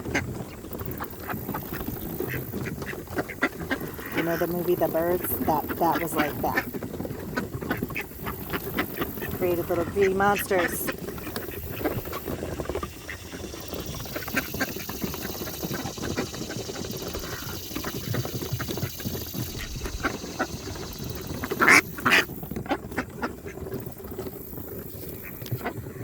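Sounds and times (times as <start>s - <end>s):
ducks quacking: 0.0s - 23.8s.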